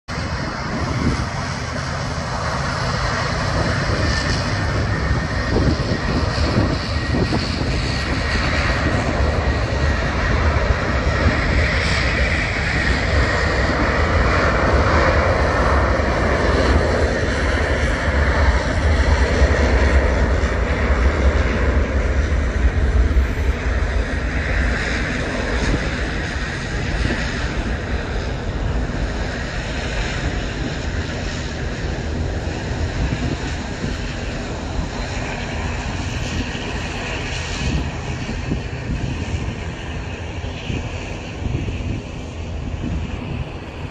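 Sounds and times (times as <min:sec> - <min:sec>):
jet airliner taking off: 0:00.1 - 0:43.9.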